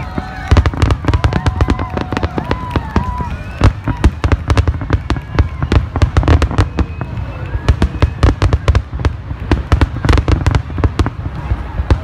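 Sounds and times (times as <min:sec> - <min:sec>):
firework bursts: 0:00.0 - 0:12.0.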